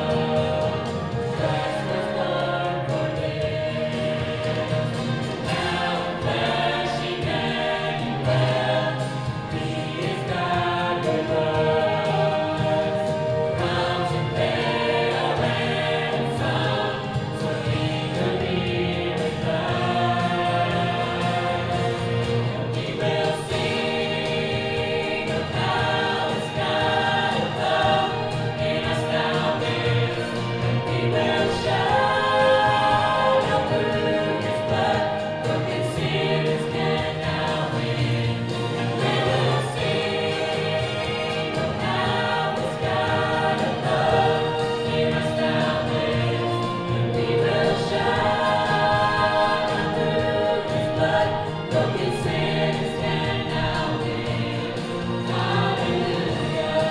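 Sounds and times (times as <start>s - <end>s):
choir singing: 0.0s - 56.9s.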